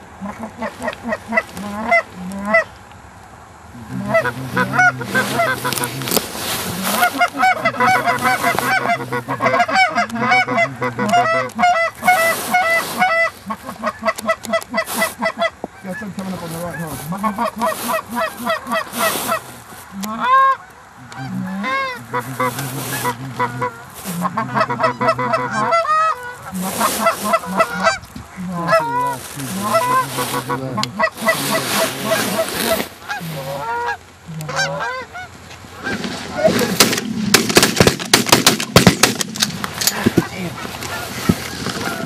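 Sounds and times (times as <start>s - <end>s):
geese honking: 0.0s - 2.8s, 3.7s - 42.0s.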